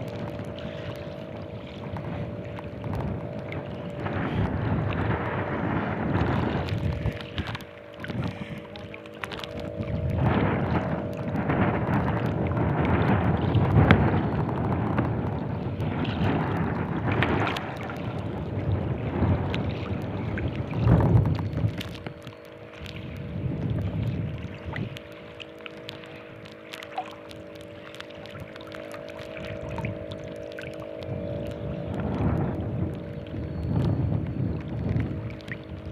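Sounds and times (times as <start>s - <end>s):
choppy water: 0.0s - 35.9s
faint hum: 0.0s - 35.9s
gusty wind buffeting microphone: 0.0s - 35.9s.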